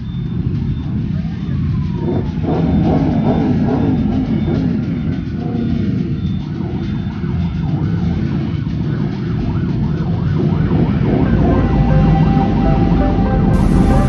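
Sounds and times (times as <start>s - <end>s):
motorcycle engines running: 0.0s - 11.8s
warbling sirens: 0.0s - 14.0s.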